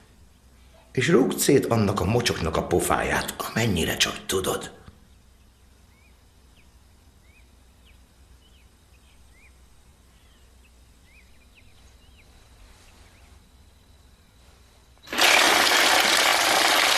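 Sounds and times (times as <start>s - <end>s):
low steady hum: 0.0s - 15.7s.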